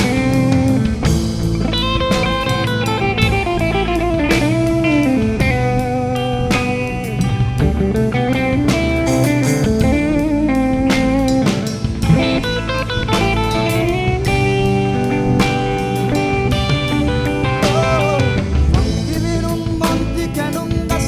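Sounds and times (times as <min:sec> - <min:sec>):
drum kit beat: 0:00.0 - 0:21.0
electric guitar lead line: 0:00.0 - 0:21.0.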